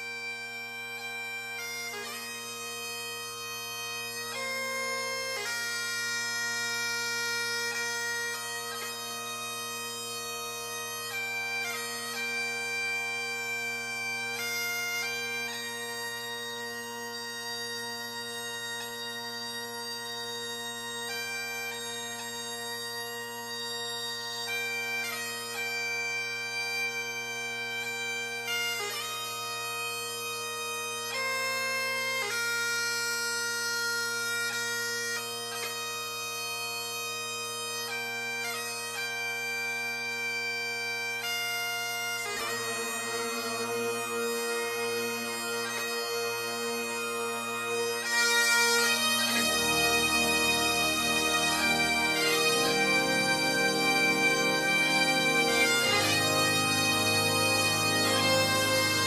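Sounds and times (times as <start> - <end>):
bagpipe chanter melody: 0.0 - 59.0
bagpipe drone: 0.0 - 59.0.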